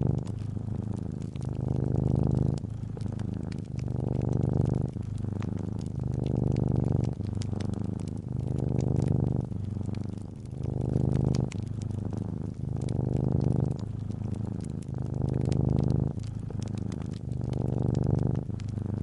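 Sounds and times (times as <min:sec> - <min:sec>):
cat purring: 0:00.0 - 0:19.0
fireplace fire crackling: 0:00.0 - 0:19.0.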